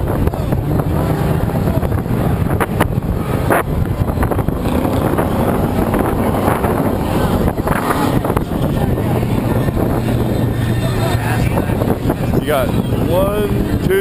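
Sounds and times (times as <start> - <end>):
race truck engines: 0.0 - 14.0
wind buffeting microphone: 0.0 - 14.0.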